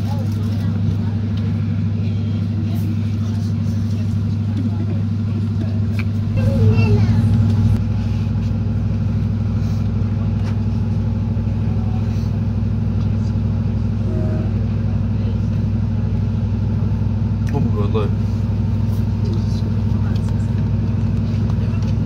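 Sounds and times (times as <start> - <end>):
railcar engine drone: 0.0 - 22.0.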